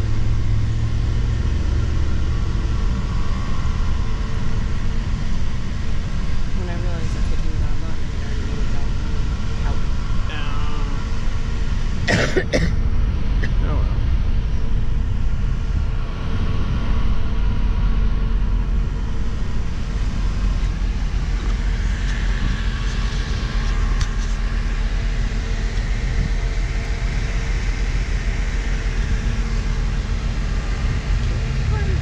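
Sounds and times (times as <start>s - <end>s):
van engine and tyre rumble: 0.0s - 32.0s.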